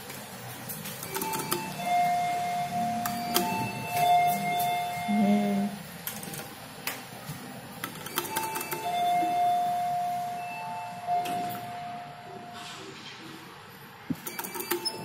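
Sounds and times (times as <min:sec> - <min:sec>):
elevator steady tone: 0:00.0 - 0:13.0, 0:13.6 - 0:15.0.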